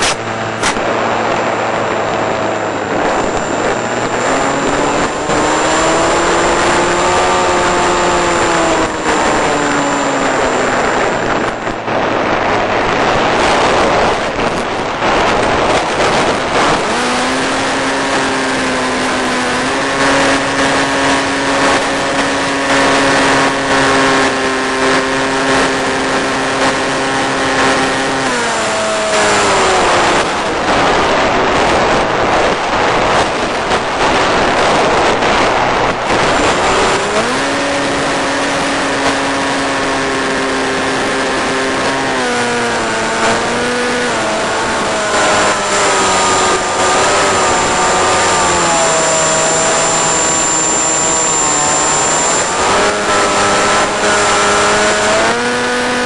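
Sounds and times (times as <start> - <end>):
electric motor and propeller whine: 0.0 - 56.0
wind rush and hiss: 0.0 - 56.0.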